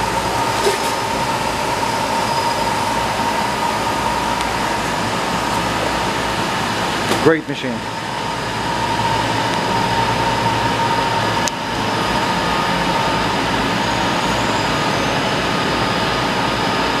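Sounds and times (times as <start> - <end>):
machine hum and whine: 0.0 - 17.0.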